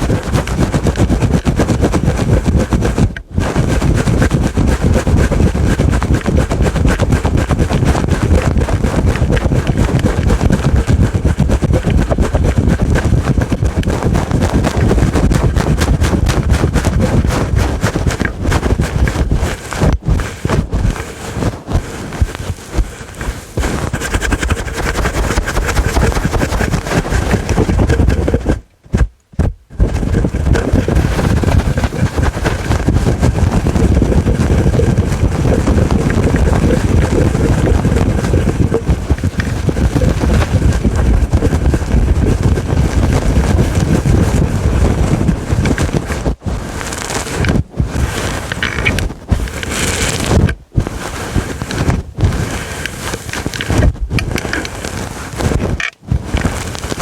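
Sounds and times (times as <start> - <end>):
scratching on furry windscreen: 0.0 - 57.0.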